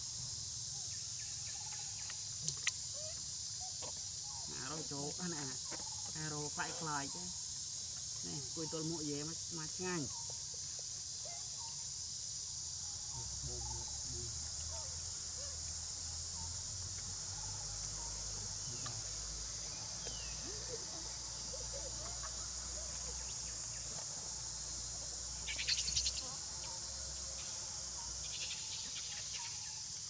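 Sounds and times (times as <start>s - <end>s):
insect chorus drone: 0.0s - 30.0s.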